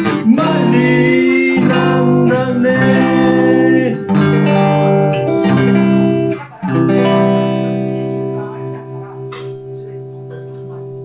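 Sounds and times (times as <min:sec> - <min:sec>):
electric guitar strummed chords: 0:00.0 - 0:11.0.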